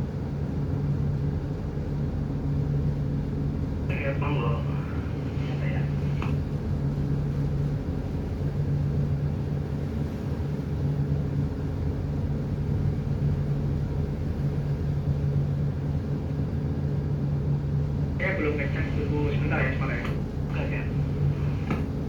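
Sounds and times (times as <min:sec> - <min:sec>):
boat engine droning: 0:02.2 - 0:22.0.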